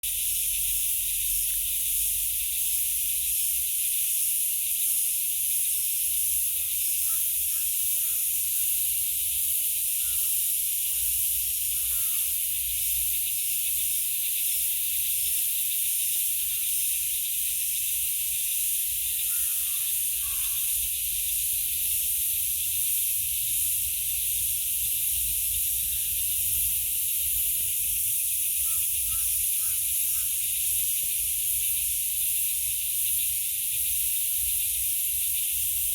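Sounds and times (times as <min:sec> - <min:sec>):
high-pitched outdoor hiss: 0:00.0 - 0:35.9.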